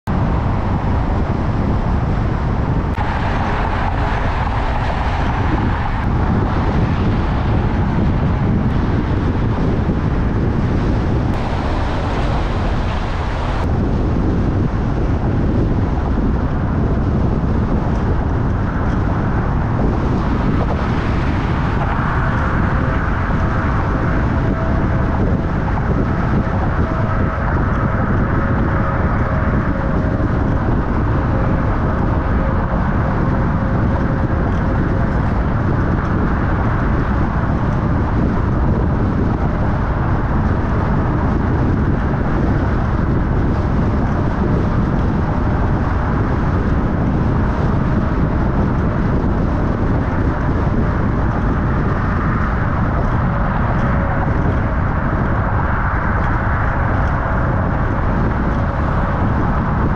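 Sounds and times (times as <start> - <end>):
car driving in traffic: 0.0 - 59.9.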